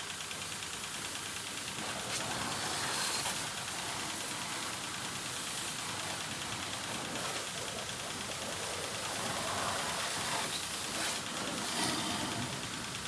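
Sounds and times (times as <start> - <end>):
water spraying: 1.3 - 13.0.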